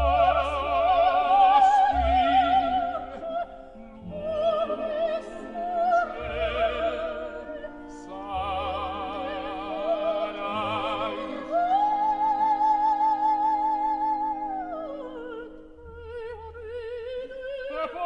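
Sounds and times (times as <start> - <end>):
orchestral accompaniment: 0.0 - 16.8
operatic singer with wide vibrato: 0.0 - 18.0.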